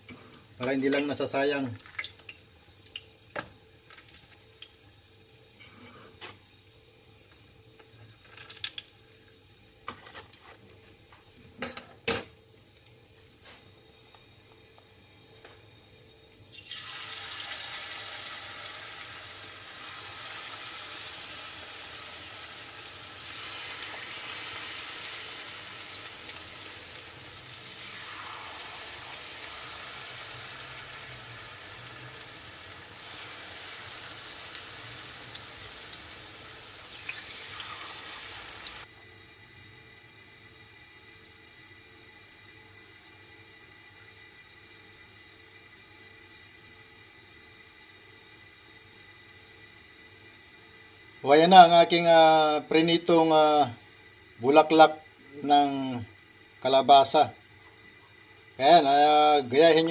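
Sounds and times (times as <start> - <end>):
batter sizzling in hot oil: 0.0 - 11.4, 12.4 - 59.9.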